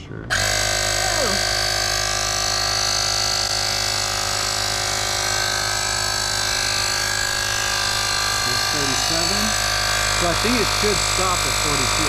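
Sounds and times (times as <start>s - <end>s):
tire inflator buzzing: 0.3s - 12.0s.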